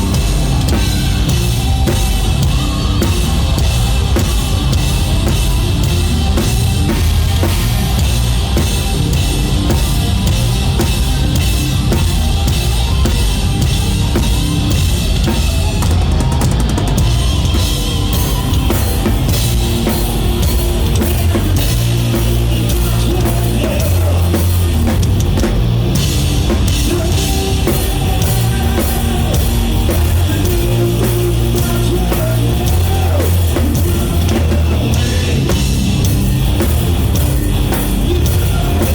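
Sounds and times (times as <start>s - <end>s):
drum kit beat: 0.0s - 38.9s
rock band playing live: 0.0s - 38.9s.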